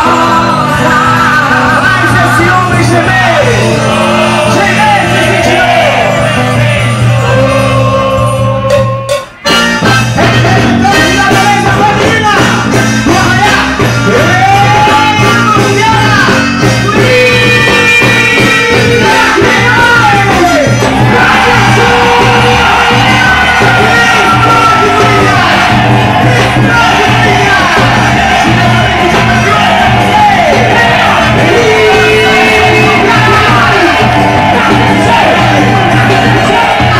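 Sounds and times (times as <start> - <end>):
live band music with pulsing beat: 0.0 - 36.9.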